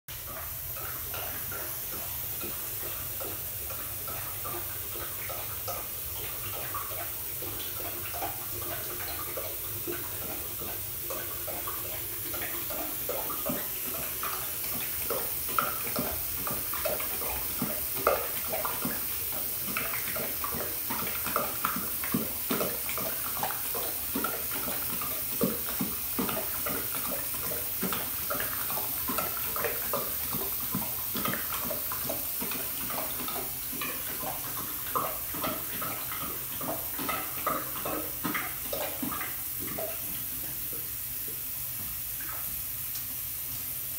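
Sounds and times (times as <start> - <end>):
dog lapping water: 0.1 - 43.9
faucet running into sink: 0.1 - 43.9.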